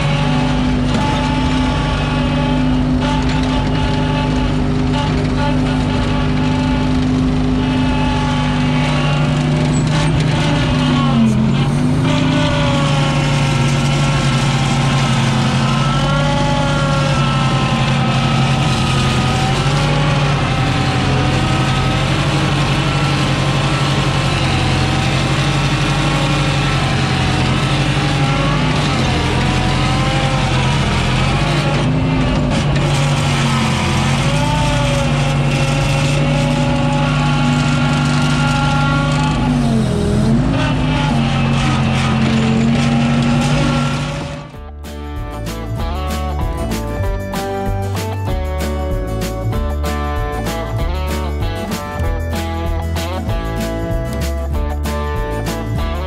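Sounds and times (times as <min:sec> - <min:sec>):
loader engine running hard: 0:00.0 - 0:56.0
loader whine: 0:00.0 - 0:56.0.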